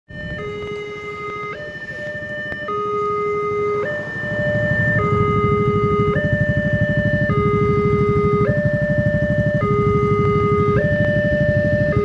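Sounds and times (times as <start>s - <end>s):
two-tone level crossing alarm: 0.1s - 12.0s
motorcycle engines idling: 1.8s - 12.0s.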